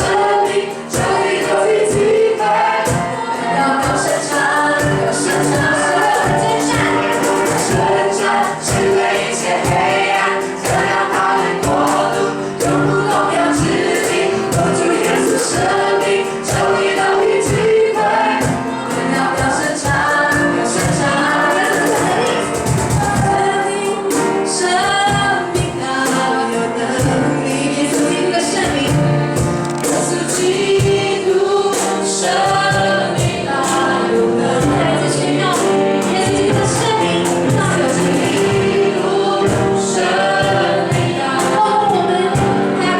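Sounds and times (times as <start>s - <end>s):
band accompaniment: 0.0s - 42.9s
choir singing worship song: 0.0s - 42.9s
steady drum beat: 0.0s - 42.9s.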